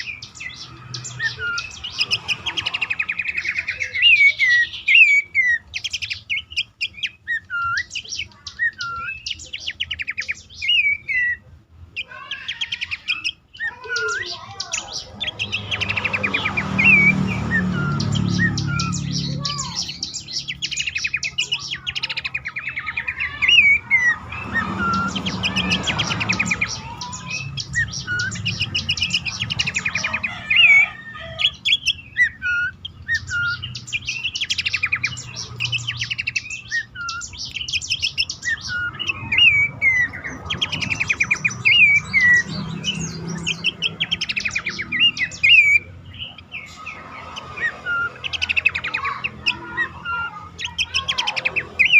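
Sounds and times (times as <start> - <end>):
bird chattering and whistling: 0.0 - 51.9.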